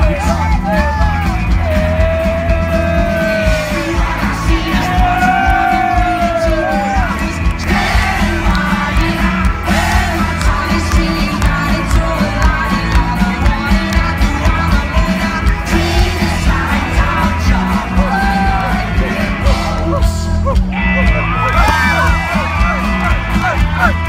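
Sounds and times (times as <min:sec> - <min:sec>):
bass guitar: 0:00.0 - 0:24.0
drums with steady beat: 0:00.0 - 0:24.0
electric guitar: 0:00.0 - 0:24.0
man singing lead: 0:00.0 - 0:24.0.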